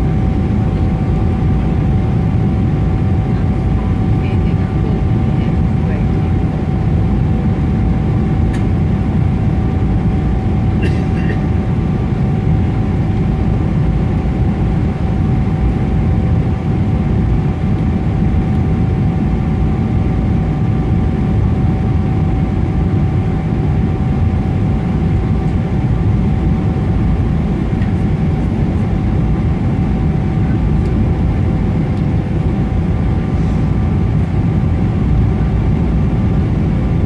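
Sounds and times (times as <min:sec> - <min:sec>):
airplane cabin roar: 0:00.0 - 0:37.0.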